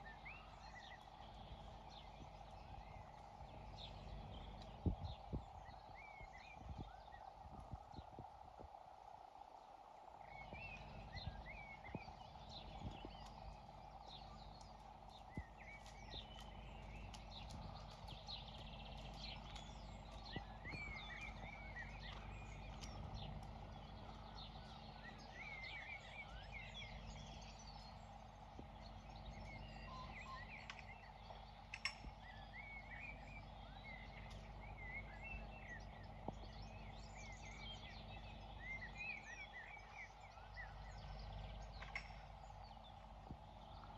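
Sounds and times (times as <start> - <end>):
small birds chirping: 0.0 - 43.9
steady low rumble: 0.0 - 43.9.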